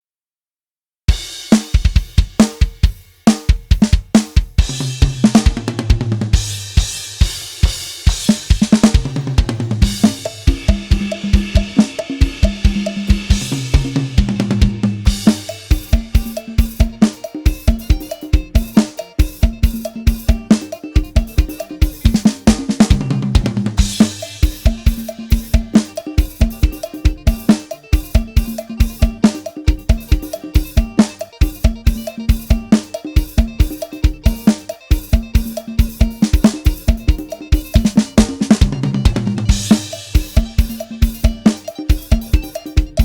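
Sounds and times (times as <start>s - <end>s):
drum kit groove: 1.1s - 43.0s.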